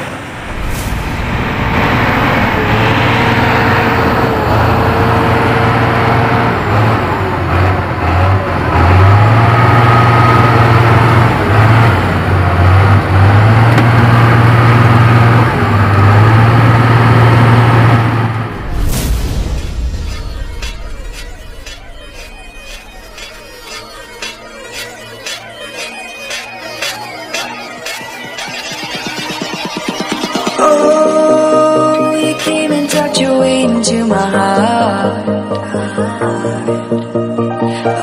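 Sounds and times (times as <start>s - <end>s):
truck diesel engine under load: 0.0s - 35.7s.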